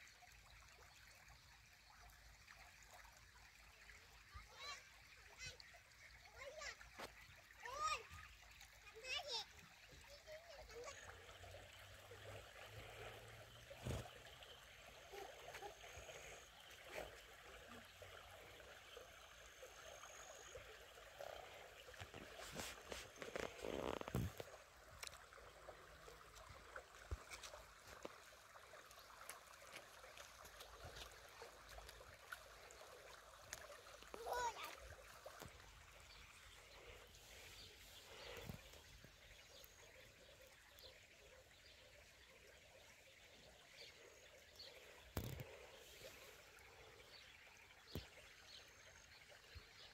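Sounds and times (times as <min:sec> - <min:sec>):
flowing stream: 0:00.0 - 0:49.9.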